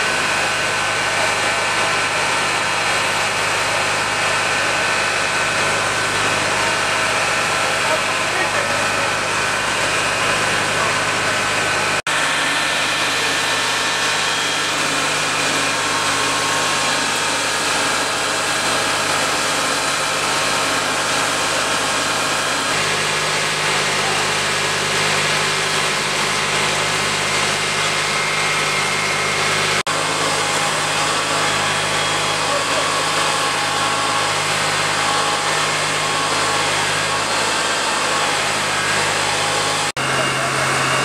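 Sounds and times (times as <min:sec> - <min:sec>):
fire truck engines running: 0:00.0 - 0:41.0.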